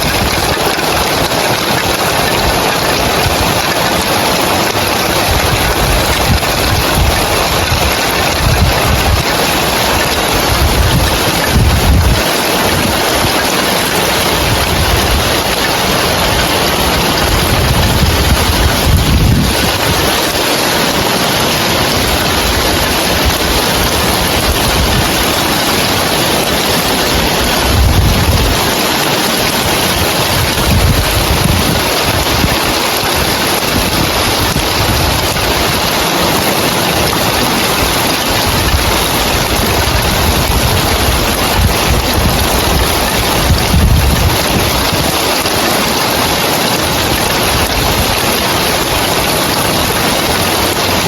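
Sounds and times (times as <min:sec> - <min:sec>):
heavy rain on roof tiles: 0:00.0 - 0:51.0
low wind rumbles: 0:00.0 - 0:51.0.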